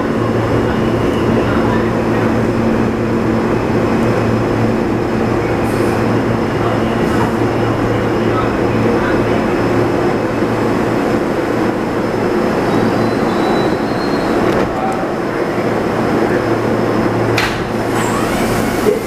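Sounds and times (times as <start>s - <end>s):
subway car rumbling on track: 0.0s - 19.0s.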